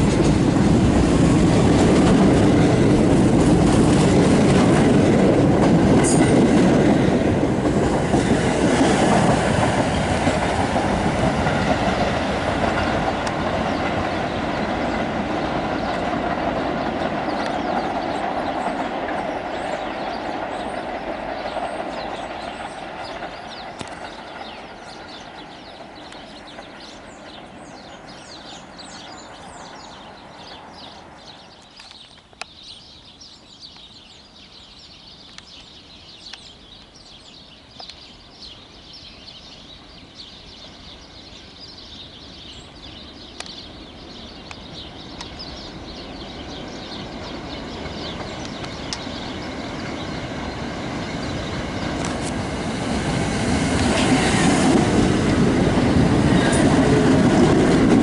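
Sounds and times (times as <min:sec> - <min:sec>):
train wheels rumbling on rails: 0:00.0 - 0:32.8, 0:35.1 - 0:58.0.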